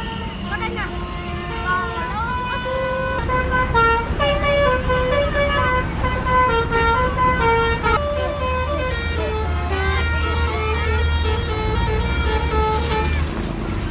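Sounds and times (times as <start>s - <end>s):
bus engine low rumble: 0.0s - 13.9s
bus multi-tone horn melody: 0.0s - 13.9s.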